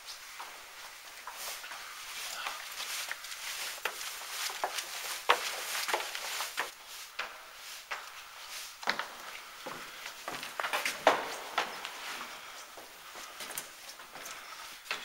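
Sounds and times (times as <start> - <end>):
people handling gear: 0.0 - 15.0.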